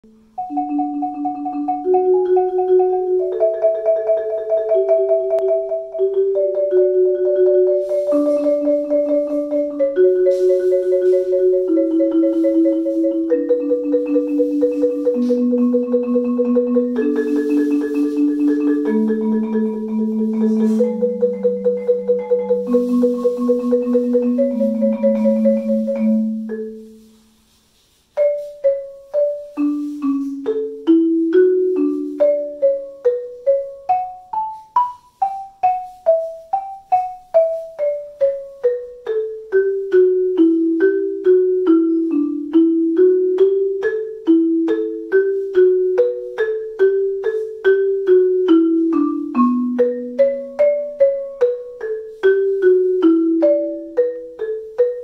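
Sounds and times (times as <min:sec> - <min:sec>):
marimba rolled chords: 0:00.0 - 0:27.2, 0:28.2 - 0:55.0.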